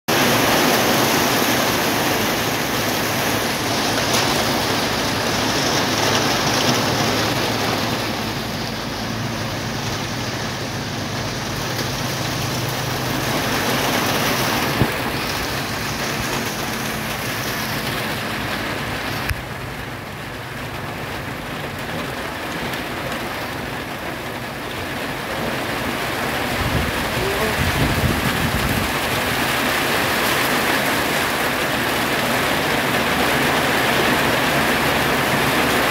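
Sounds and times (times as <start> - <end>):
light rain falling: 0.1 - 35.9.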